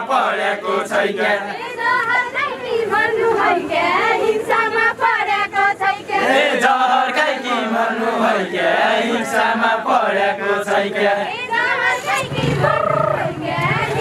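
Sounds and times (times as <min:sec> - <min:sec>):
men singing folk song together: 0:00.0 - 0:01.6, 0:03.0 - 0:14.0.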